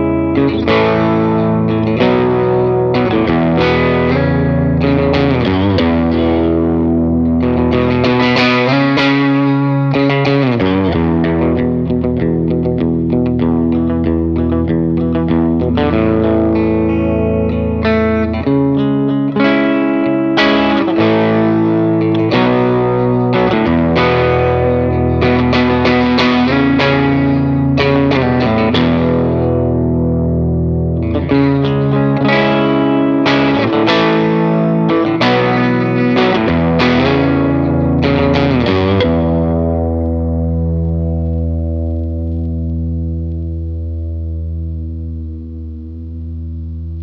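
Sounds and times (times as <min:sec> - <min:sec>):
electric guitar strumming chords: 0:00.0 - 0:47.0.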